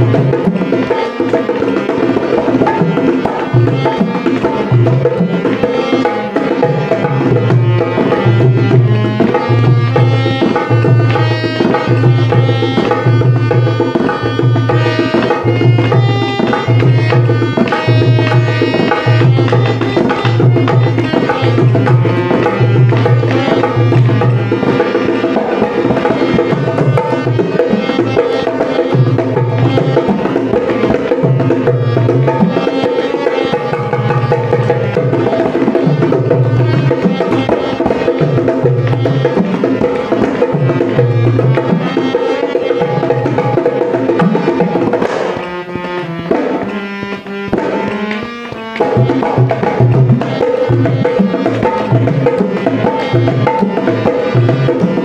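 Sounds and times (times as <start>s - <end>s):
barrel drum played by hand: 0.0s - 55.0s.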